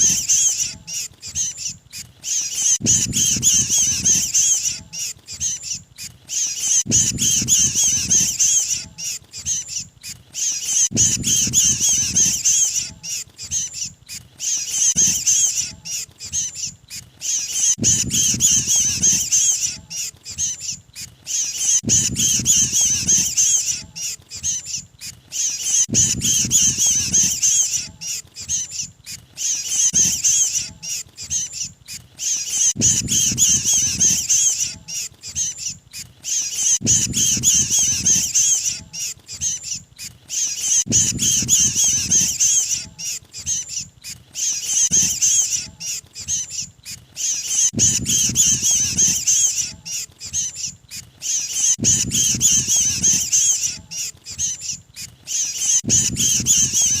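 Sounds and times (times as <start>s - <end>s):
bird distress calls: 0.0s - 57.0s.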